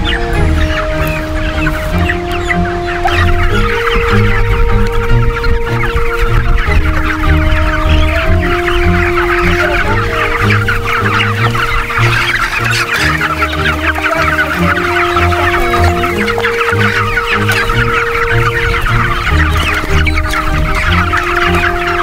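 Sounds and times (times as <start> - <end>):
background music with bass line: 0.0 - 22.0
chickens clucking: 0.0 - 22.0.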